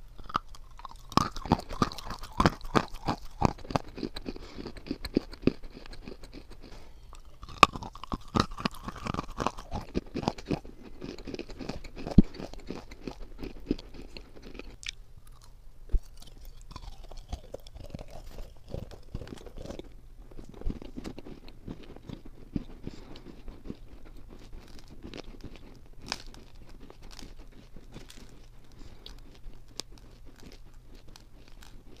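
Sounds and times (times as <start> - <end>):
crunching and chewing clay: 0.0 - 32.0.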